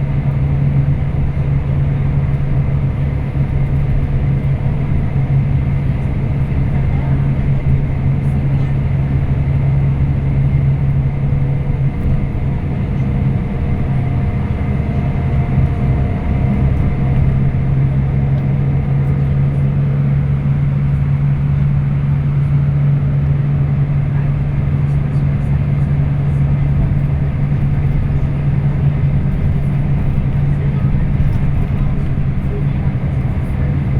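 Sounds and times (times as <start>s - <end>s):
coach diesel engine droning: 0.0s - 33.9s
road rumble: 0.0s - 33.9s.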